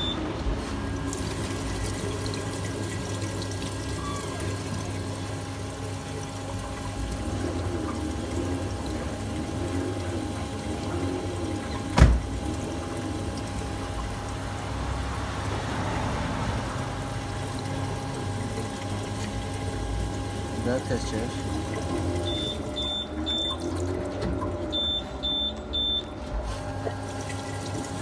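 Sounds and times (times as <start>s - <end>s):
liquid running: 0.0s - 28.0s
steady machine hum: 0.0s - 28.0s.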